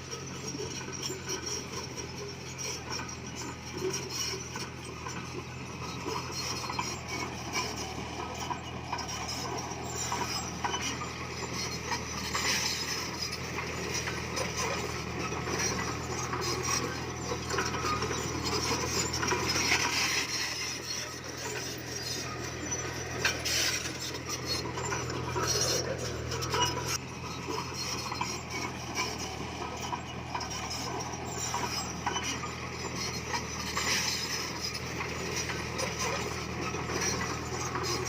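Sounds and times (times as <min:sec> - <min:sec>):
bulldozer diesel engine running: 0:00.0 - 0:38.0
steel tracks clinking on stone: 0:00.0 - 0:38.0.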